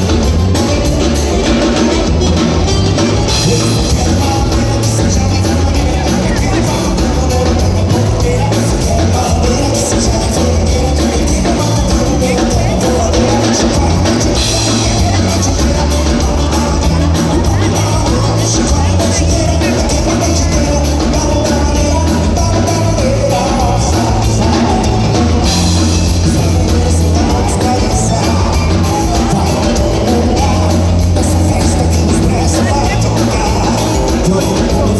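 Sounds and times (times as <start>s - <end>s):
live dance band playing: 0.0s - 34.9s
person singing: 0.0s - 34.9s.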